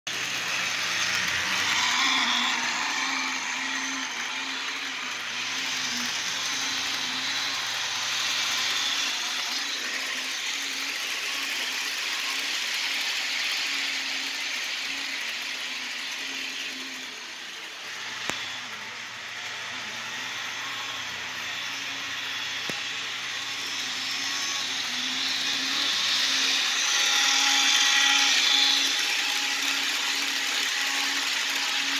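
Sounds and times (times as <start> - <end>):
model train motor whirring: 0.1 - 31.9.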